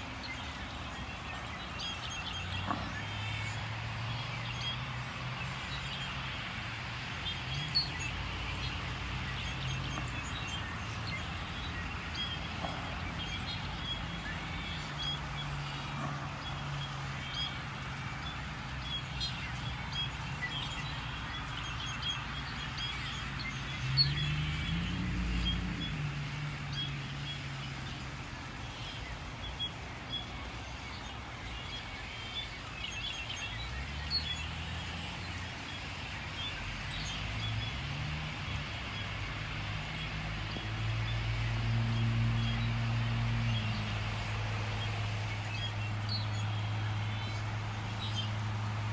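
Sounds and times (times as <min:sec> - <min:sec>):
passing vehicle engines: 0:00.0 - 0:48.9
small birds chirping: 0:00.0 - 0:48.9
steady outdoor hum: 0:00.0 - 0:48.9.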